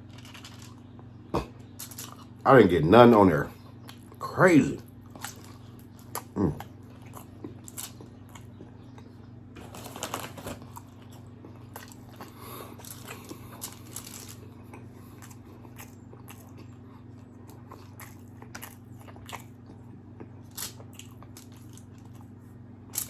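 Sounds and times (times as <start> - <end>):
biting and chewing food: 0.0 - 2.4, 3.1 - 23.0
faint steady hum: 0.0 - 23.0.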